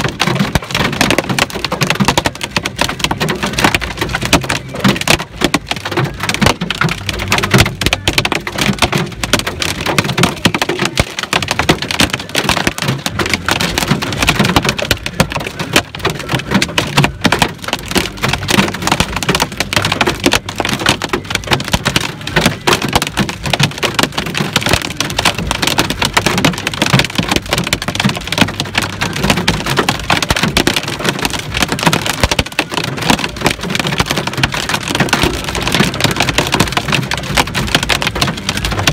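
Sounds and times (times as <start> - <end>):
hail and rain on car roof: 0.0 - 38.9.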